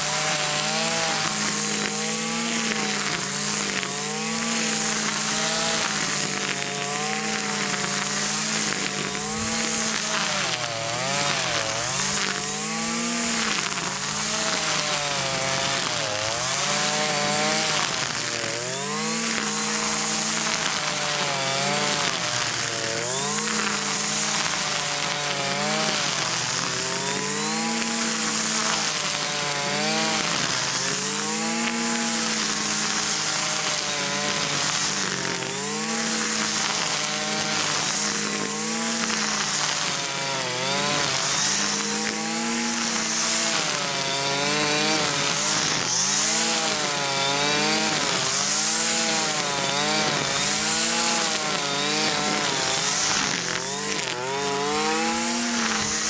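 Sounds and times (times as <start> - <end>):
string trimmer engine running: 0.0 - 56.0.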